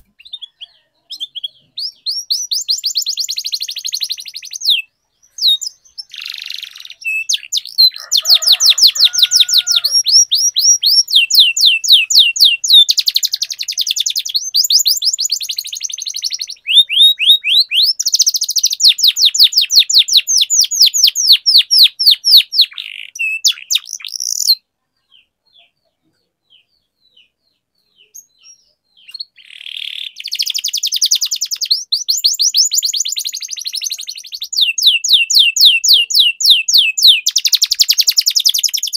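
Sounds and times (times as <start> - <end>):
canary trilling: 0.0 - 25.8, 27.9 - 38.9.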